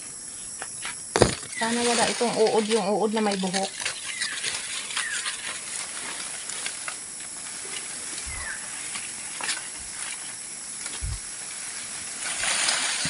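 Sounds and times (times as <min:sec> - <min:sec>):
leaves and branches rustling: 0:01.2 - 0:13.0.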